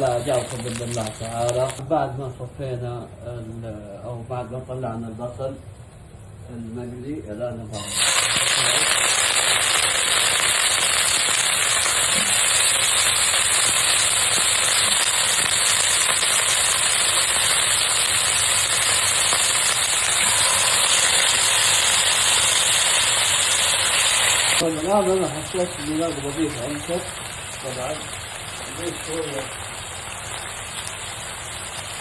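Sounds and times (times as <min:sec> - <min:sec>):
food frying in hot oil: 0:00.0 - 0:01.8, 0:07.7 - 0:32.0.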